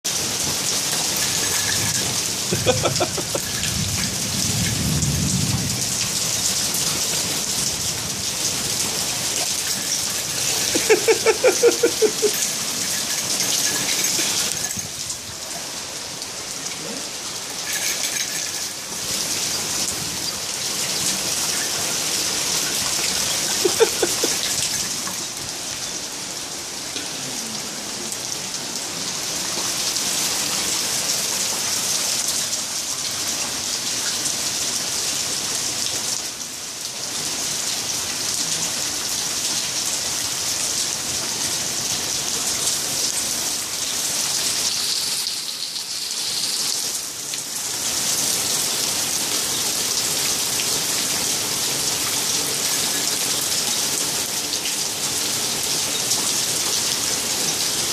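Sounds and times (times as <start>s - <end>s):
steady rain hitting ground: 0.0s - 57.9s.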